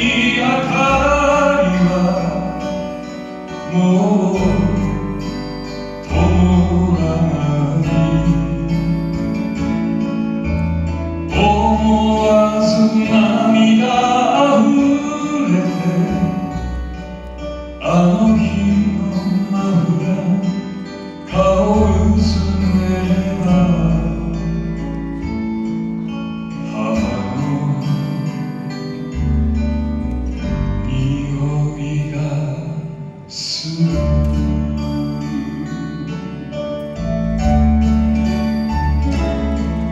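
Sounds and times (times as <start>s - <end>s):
person singing: 0.0s - 10.1s, 11.3s - 17.2s, 17.8s - 25.0s, 26.5s - 39.9s
acoustic guitar: 0.0s - 39.9s.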